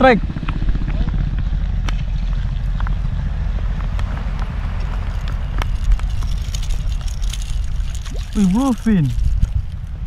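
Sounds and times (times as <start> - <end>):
wind buffeting microphone: 0.2 - 10.0.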